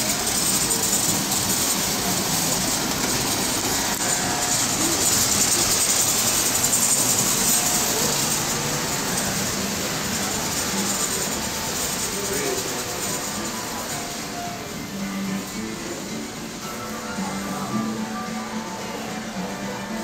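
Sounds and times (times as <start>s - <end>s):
toy trains whirring on track: 0.0s - 20.0s.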